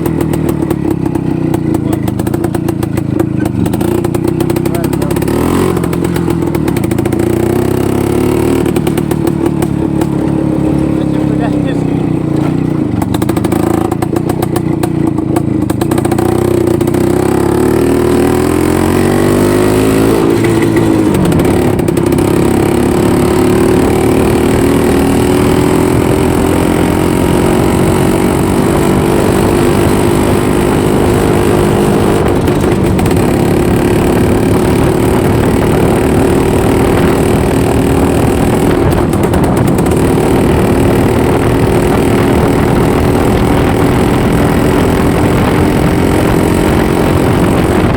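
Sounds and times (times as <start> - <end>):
two-stroke motorcycle engine running: 0.0 - 47.9.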